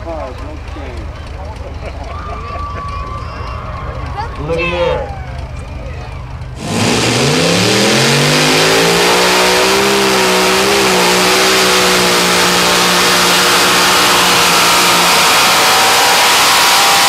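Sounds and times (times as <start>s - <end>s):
pulling tractor engines at full throttle: 0.0s - 17.0s.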